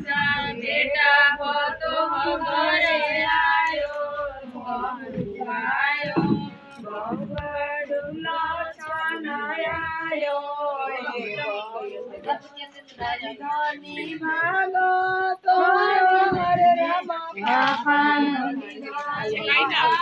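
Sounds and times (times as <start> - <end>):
women singing folk song: 0.0 - 20.0.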